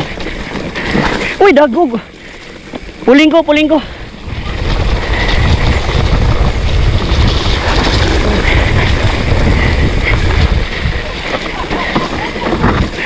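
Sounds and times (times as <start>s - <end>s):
mountain bike rumbling and rattling: 0.0s - 13.0s
wind buffeting microphone: 0.0s - 13.0s.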